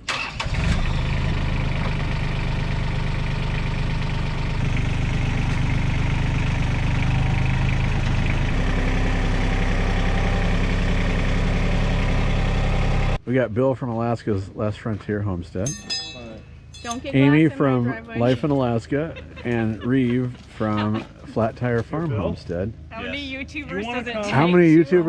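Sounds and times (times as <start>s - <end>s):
vehicle engine idling: 0.0s - 13.2s, 14.0s - 25.0s.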